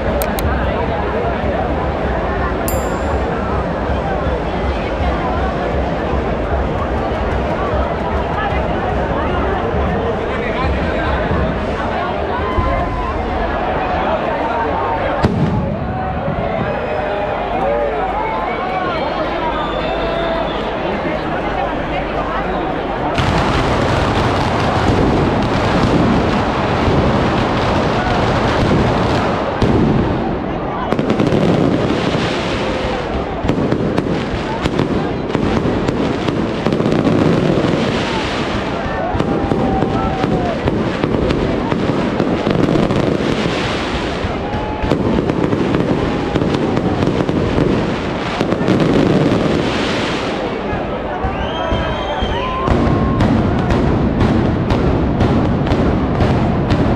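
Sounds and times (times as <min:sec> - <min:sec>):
firecracker barrage: 0:00.0 - 0:17.6, 0:21.5 - 0:56.9.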